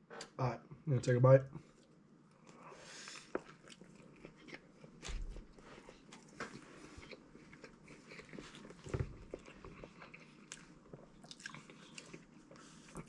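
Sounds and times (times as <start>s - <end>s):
person chewing crunchy food: 2.4s - 13.0s.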